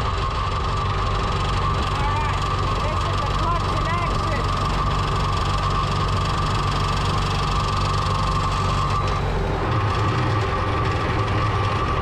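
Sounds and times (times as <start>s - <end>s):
steady whine: 0.0s - 12.0s
tractor engine running: 0.0s - 12.0s.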